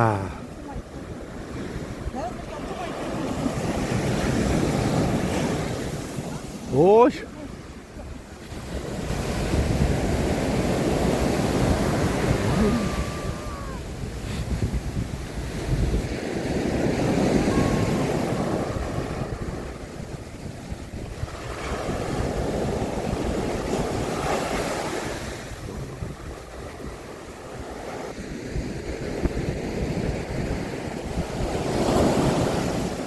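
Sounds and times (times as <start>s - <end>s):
sea waves breaking on beach: 0.0s - 33.0s
wind buffeting microphone: 0.3s - 6.7s, 7.5s - 33.0s.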